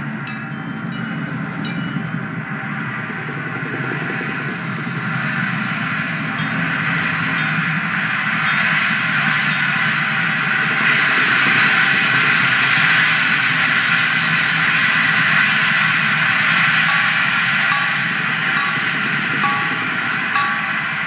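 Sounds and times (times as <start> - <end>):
cymbal and gong rolls: 0.0 - 3.2, 4.5 - 12.6, 13.2 - 21.0.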